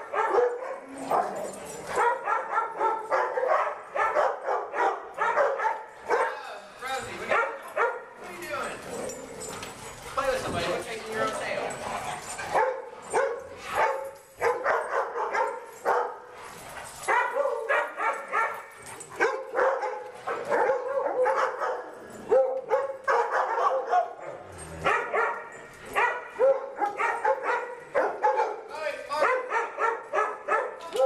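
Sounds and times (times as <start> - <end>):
dogs barking and whining: 0.0 - 31.0.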